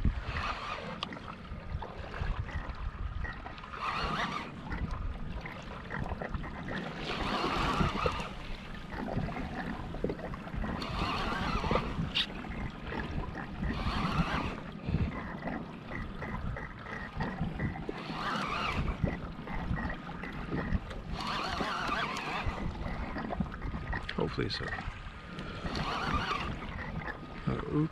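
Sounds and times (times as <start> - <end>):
waves slapping against kayak hull: 0.0 - 27.9
wind rumble on microphone: 0.0 - 27.9.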